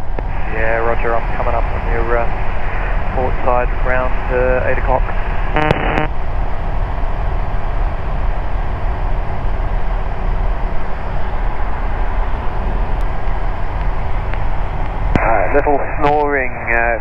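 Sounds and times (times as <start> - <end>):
microlight engine and propeller droning: 0.0 - 17.0.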